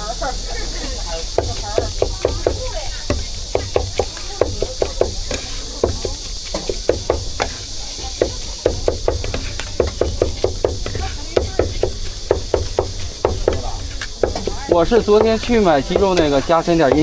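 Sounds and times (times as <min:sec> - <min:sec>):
cleaver chopping on wooden board: 0:01.3 - 0:17.0.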